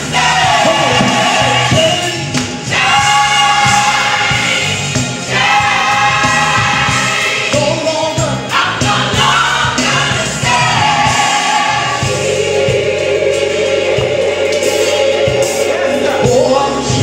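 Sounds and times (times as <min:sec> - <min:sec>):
gospel choir singing: 0:00.0 - 0:17.0
live band with bass and drums: 0:00.0 - 0:17.0.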